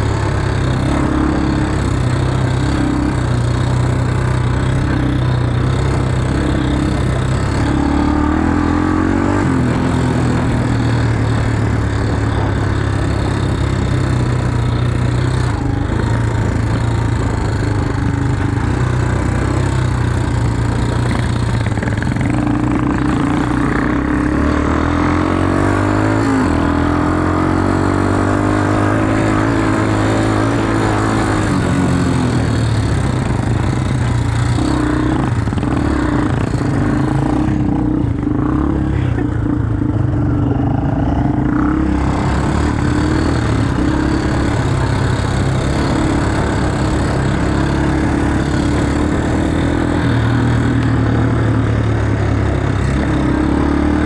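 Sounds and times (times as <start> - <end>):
quad bike engine revving: 0.0 - 54.0.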